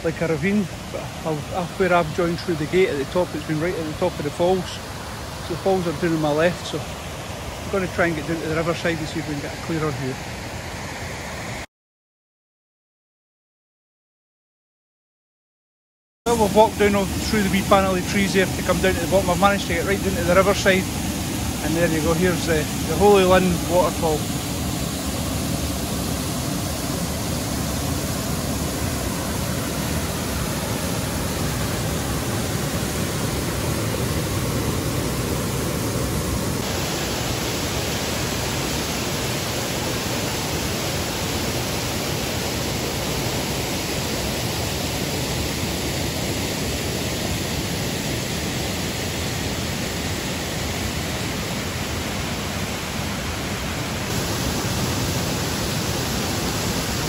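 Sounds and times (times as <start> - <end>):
waterfall rushing: 0.0 - 11.6, 16.3 - 57.0.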